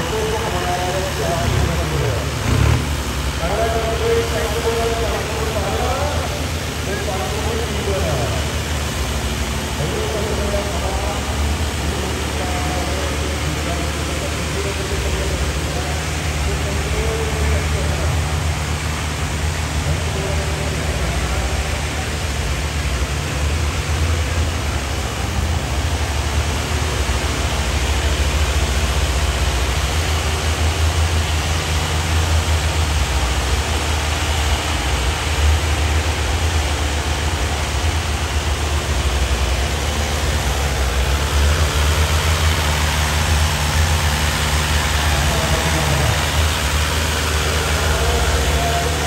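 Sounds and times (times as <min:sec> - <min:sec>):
tractor engine under load: 0:00.0 - 0:49.0.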